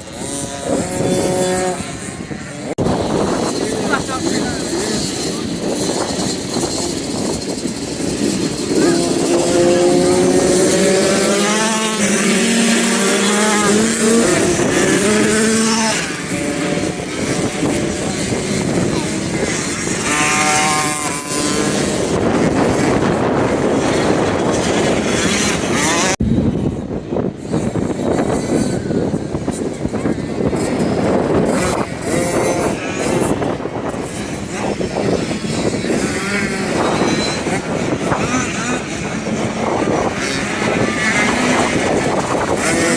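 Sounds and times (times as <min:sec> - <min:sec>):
motocross bike engines revving: 0:00.0 - 0:42.9
steady rushing noise: 0:00.0 - 0:42.9.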